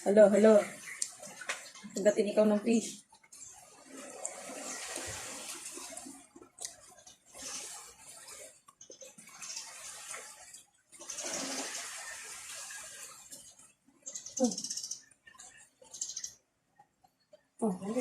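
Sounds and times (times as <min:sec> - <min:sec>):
water running and splashing: 0:00.0 - 0:16.4.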